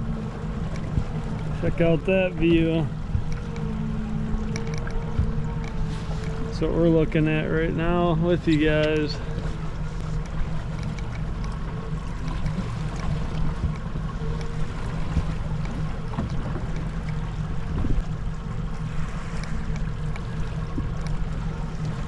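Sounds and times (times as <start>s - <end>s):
boat motor droning: 0.0s - 22.0s
wind and water rushing: 0.0s - 22.0s.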